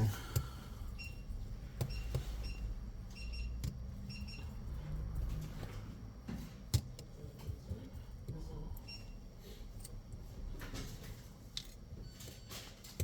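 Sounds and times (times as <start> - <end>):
low steady hum: 0.0 - 12.3.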